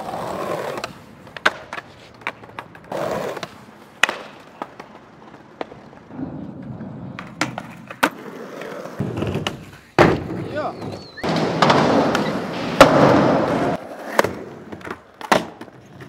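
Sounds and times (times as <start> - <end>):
skateboard wheels rolling: 0.0 - 16.0
skateboards clacking on ground: 0.0 - 16.0.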